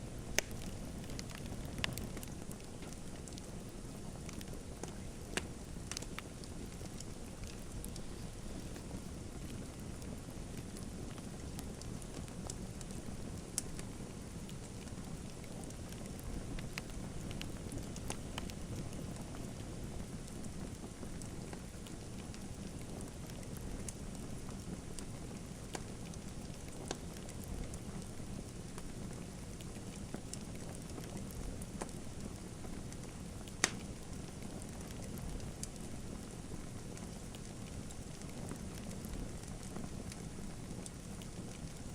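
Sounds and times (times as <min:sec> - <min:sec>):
wood fire crackling: 0:00.0 - 0:41.9
fire popping: 0:00.1 - 0:41.9.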